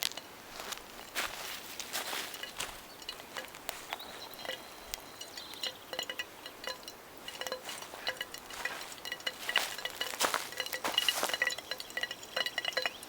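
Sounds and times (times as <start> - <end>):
utensil clinking against cookware: 0.1 - 13.0.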